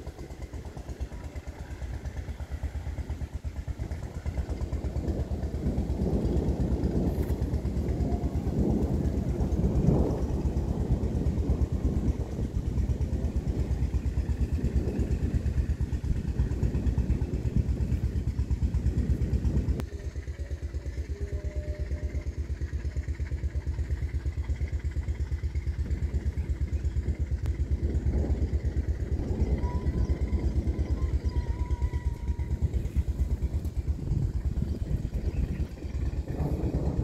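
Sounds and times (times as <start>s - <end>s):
engine running: 0.0s - 37.0s.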